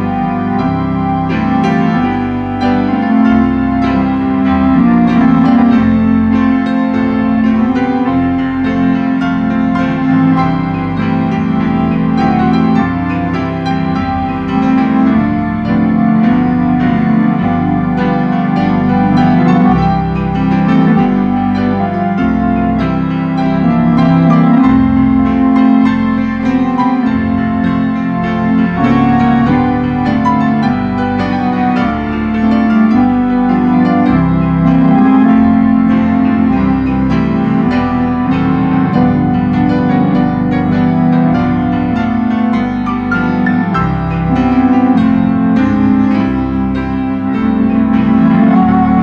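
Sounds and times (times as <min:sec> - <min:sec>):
organ holding long notes: 0:00.0 - 0:49.0
piano chords: 0:00.0 - 0:49.0.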